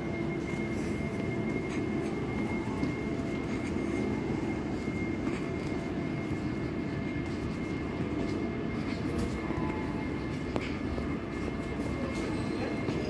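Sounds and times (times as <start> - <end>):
electric train rumble: 0.0 - 13.0
high-pitched whine: 0.0 - 13.0.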